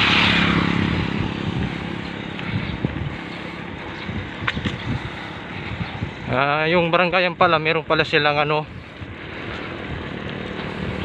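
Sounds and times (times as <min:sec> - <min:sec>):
small vehicle engine hum: 0:00.0 - 0:06.7, 0:07.7 - 0:11.0
wind on microphone: 0:00.0 - 0:06.9, 0:08.6 - 0:11.0.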